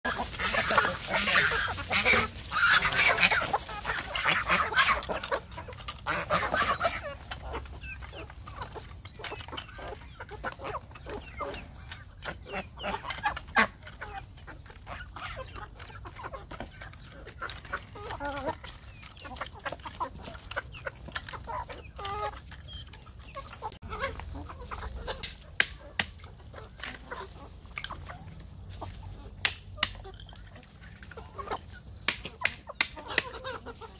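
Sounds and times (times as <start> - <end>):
chickens clucking: 0.0 - 33.9
chickens pecking clicks: 0.1 - 33.9.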